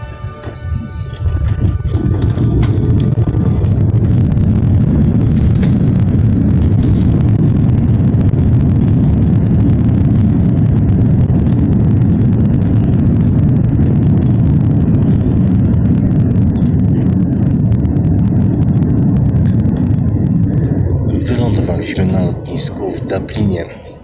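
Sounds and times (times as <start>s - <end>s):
jet engine and runway rumble: 0.0s - 24.0s.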